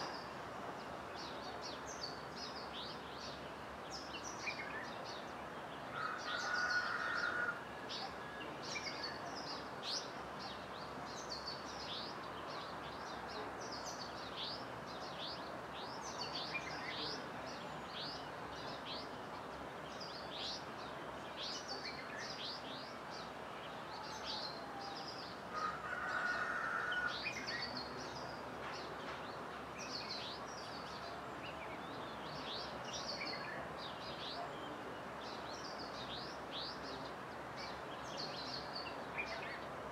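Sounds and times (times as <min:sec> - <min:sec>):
background hiss: 0:00.0 - 0:39.9
birds chirping: 0:00.0 - 0:39.9.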